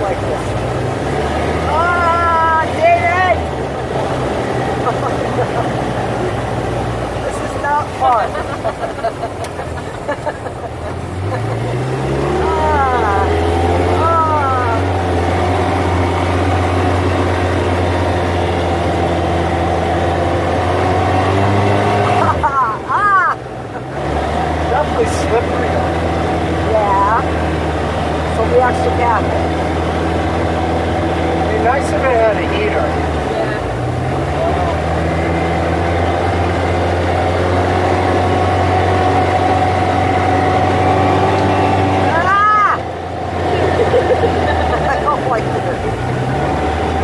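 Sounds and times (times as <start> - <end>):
vehicle engine low drone: 0.0 - 47.0.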